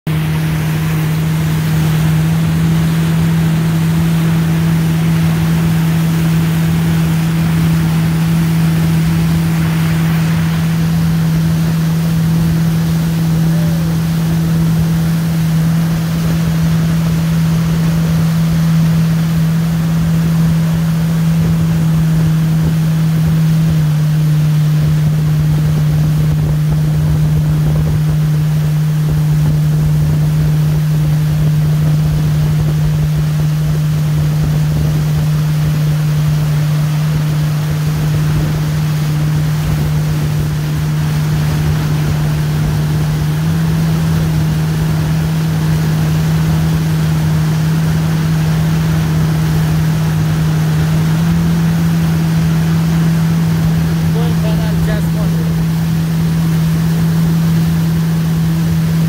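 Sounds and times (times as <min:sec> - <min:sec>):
motorboat engine drone: 0:00.0 - 0:59.0
rushing wake and spray: 0:00.0 - 0:59.0
wind on microphone: 0:00.1 - 0:59.0.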